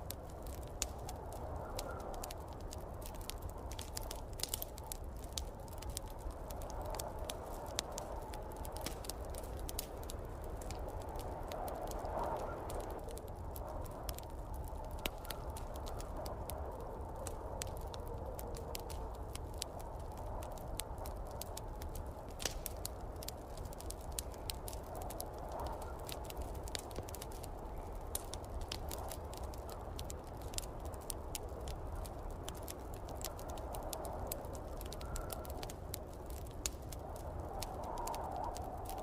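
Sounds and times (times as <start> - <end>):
snowstorm wind rushing: 0.0 - 39.0
wood fire crackling: 0.0 - 39.0
sharp pops and snaps: 0.1 - 39.0.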